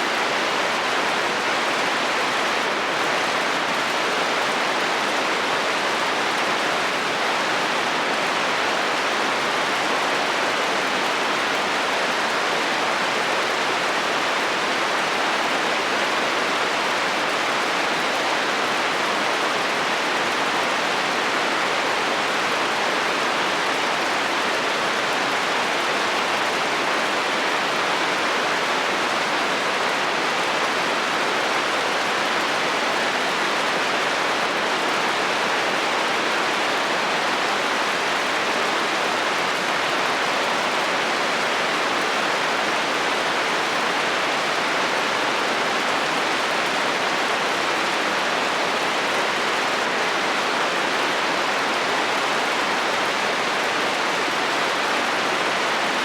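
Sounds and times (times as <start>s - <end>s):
rain on a metal roof: 0.0s - 56.0s.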